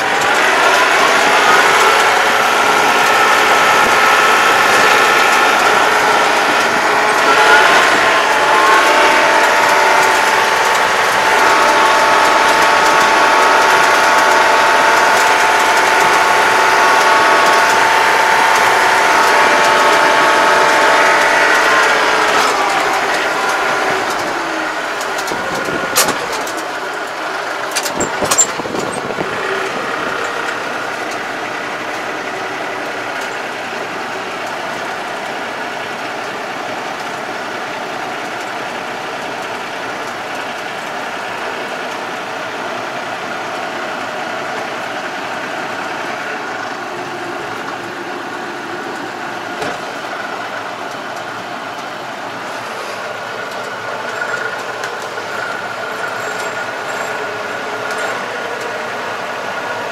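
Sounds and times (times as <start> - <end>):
tractor engine whining: 0.0 - 59.9.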